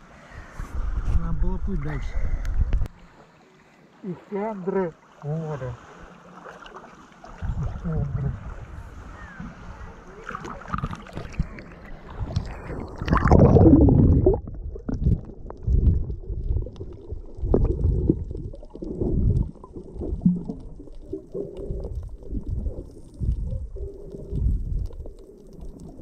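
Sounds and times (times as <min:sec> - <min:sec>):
sea water sloshing and gurgling: 0:00.3 - 0:26.0.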